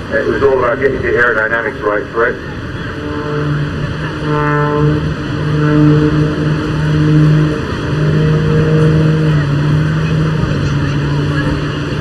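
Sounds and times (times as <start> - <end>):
biplane engine droning: 0.0 - 12.0.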